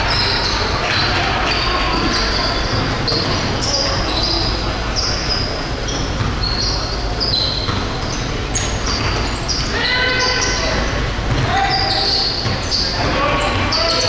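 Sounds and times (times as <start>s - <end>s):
crowd noise in large hall: 0.0s - 14.0s
sneakers squeaking on gym floor: 0.0s - 14.0s.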